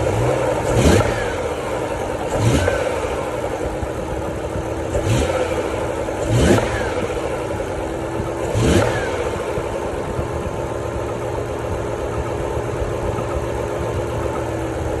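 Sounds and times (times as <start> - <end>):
car engine idling and revving: 0.0 - 15.0
steady engine whine: 0.0 - 15.0.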